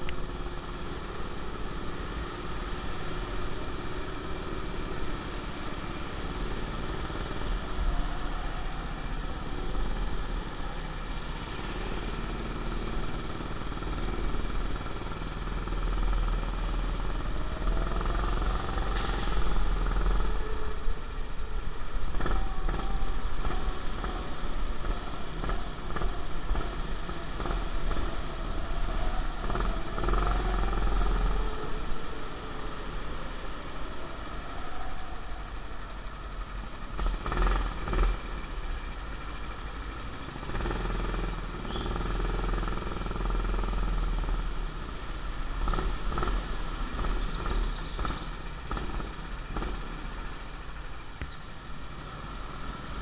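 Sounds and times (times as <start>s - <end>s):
go-kart motor running: 0.0s - 53.0s.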